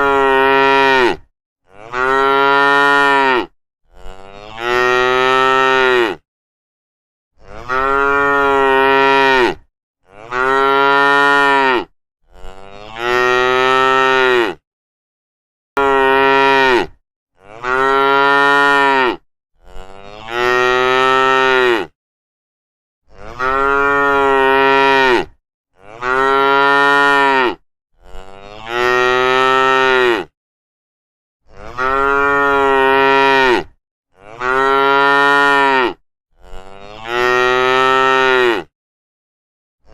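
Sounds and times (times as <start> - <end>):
cow mooing: 0.0 - 6.2, 7.4 - 14.6, 15.8 - 22.0, 23.1 - 30.3, 31.5 - 38.7.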